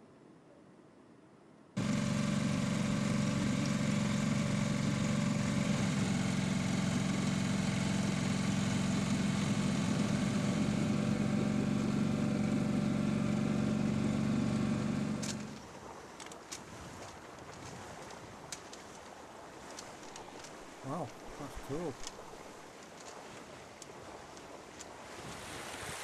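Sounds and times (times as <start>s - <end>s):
outboard motor droning: 1.8s - 26.0s.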